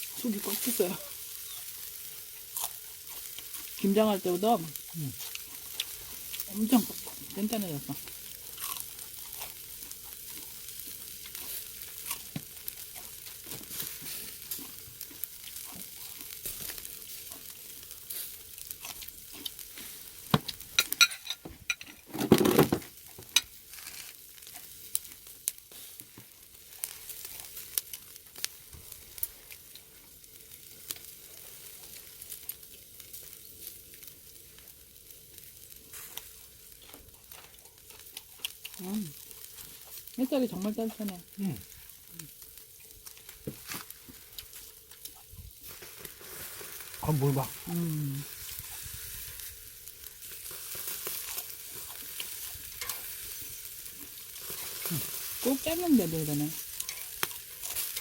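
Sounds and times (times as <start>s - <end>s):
pork sizzling on a grill: 0.0s - 58.0s.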